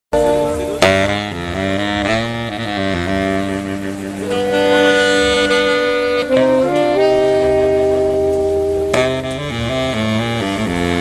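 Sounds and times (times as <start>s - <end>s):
saxophones playing chords: 0.2s - 11.0s.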